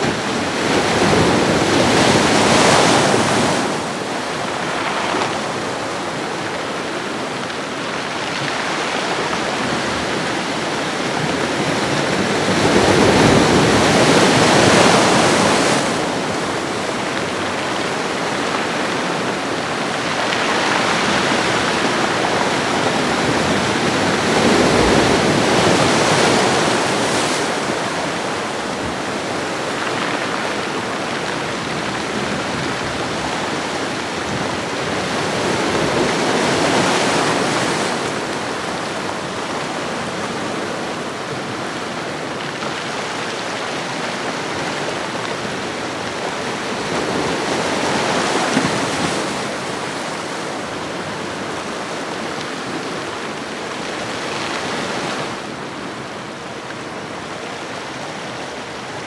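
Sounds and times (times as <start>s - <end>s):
ocean waves washing ashore: 0.0s - 59.0s.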